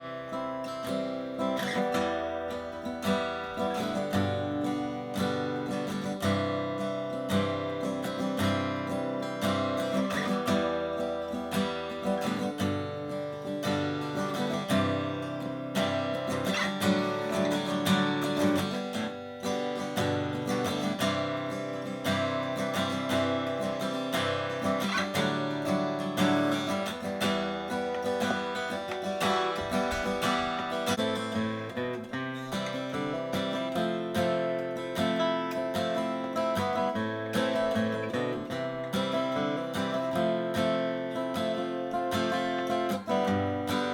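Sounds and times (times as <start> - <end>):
acoustic guitar playing: 0.0 - 43.9.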